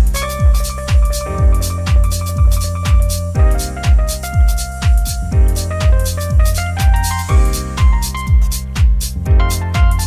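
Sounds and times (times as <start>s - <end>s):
held keyboard notes: 0.0s - 10.0s
low kick drum: 0.0s - 10.0s.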